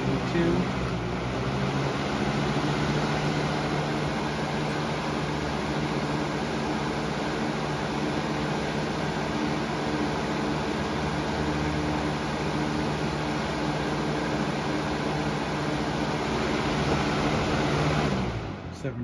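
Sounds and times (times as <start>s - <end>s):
box fan rushing air: 0.0s - 19.0s.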